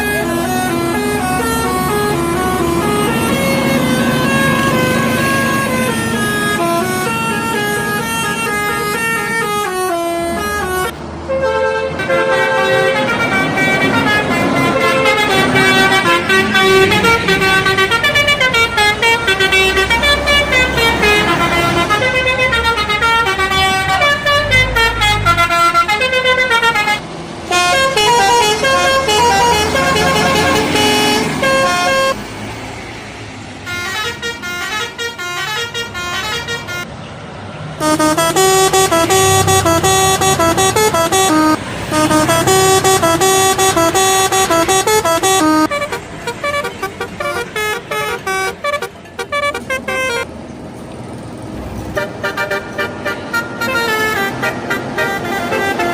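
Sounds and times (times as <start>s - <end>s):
musical air horns playing tunes: 0.0s - 32.2s, 33.7s - 36.9s, 37.8s - 50.3s, 52.0s - 55.9s.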